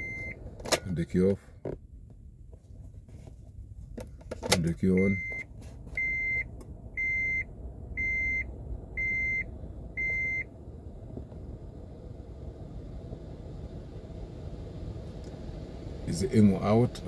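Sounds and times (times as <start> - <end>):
low even hum: 0.0 - 17.0.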